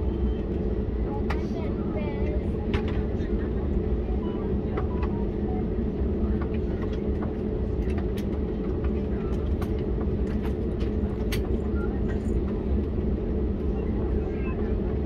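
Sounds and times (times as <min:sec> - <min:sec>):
jet engines idling rumble: 0:00.0 - 0:15.0.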